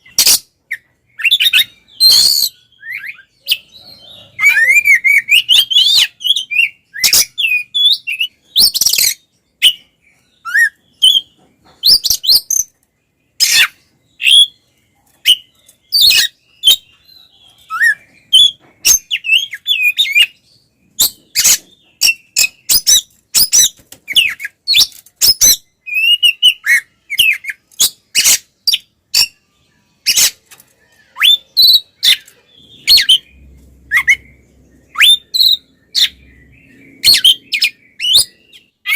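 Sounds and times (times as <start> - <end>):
magpie-robin singing varied song: 0.0 - 38.9.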